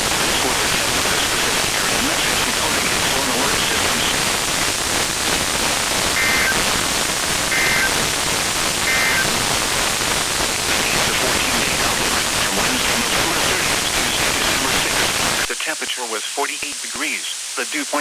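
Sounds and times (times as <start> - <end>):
faint two-tone data bursts: 0.0 - 18.0
radio static hiss: 0.0 - 18.0.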